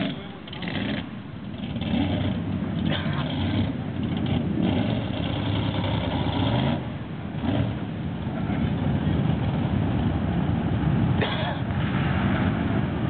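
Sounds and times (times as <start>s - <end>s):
off-road engines revving: 0.0s - 13.0s.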